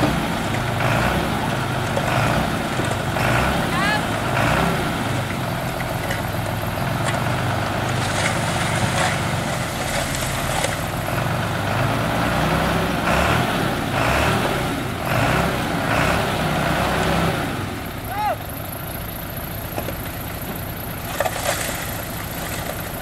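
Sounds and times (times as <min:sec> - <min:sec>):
heavy diesel engines running: 0:00.0 - 0:23.0.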